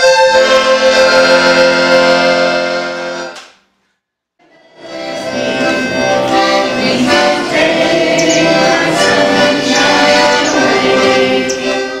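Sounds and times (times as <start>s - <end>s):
accordion playing chords: 0.0s - 3.4s, 4.4s - 12.0s.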